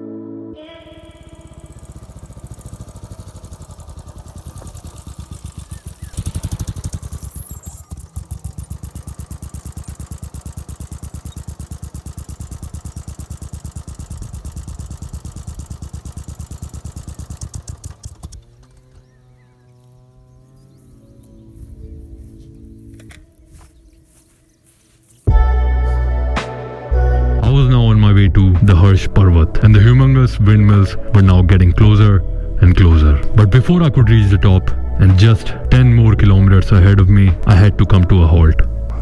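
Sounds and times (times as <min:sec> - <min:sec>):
motorcycle engine revving: 0:00.8 - 0:24.9, 0:27.4 - 0:39.0.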